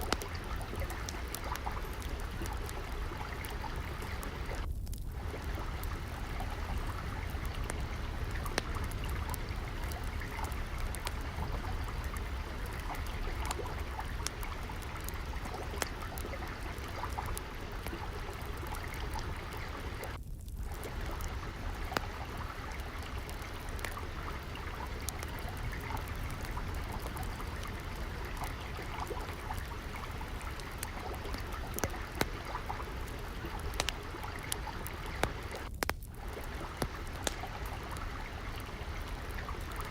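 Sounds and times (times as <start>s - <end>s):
trickling water: 0.0s - 39.9s
wood fire crackling: 0.0s - 39.9s.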